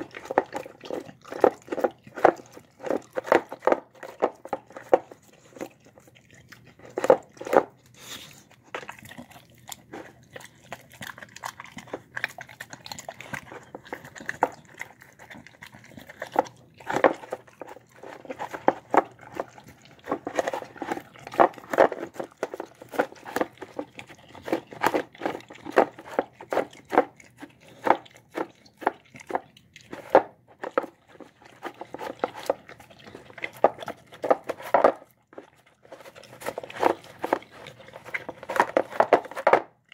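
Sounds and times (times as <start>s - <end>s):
dog eating wet smacks: 0.0s - 39.9s.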